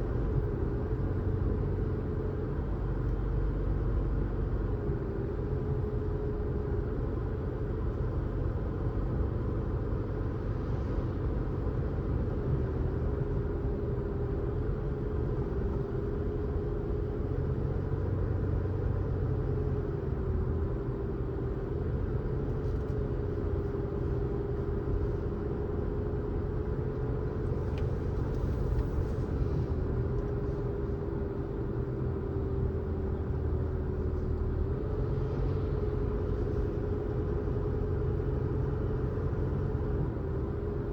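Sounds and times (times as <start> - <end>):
car engine drone: 0.0 - 40.9
road rumble: 0.0 - 40.9.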